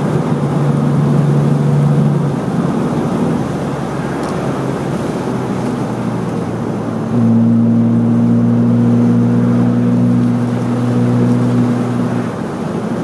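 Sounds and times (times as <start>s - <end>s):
car engine droning: 0.0s - 13.0s
road and wind noise: 0.0s - 13.0s.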